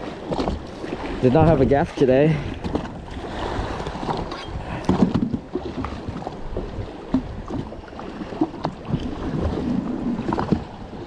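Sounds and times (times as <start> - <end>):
waves slapping against a hull: 0.0 - 11.0.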